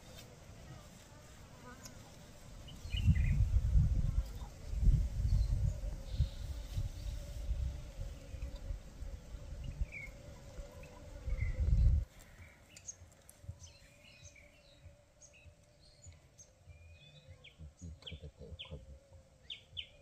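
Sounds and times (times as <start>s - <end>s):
wild birds chirping: 1.9s - 20.0s.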